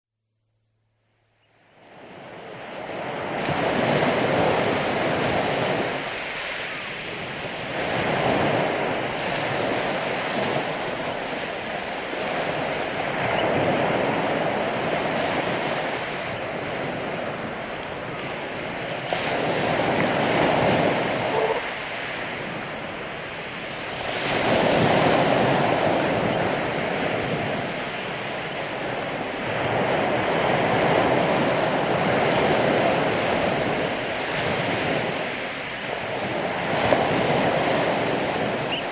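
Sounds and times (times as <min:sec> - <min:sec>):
ocean waves breaking on beach: 0:01.6 - 0:38.9.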